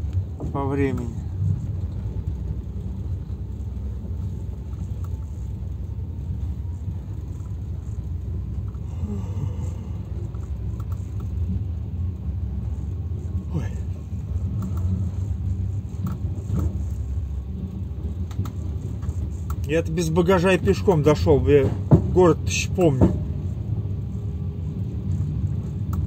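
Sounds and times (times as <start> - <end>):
train carriage rumble: 0.0 - 26.0.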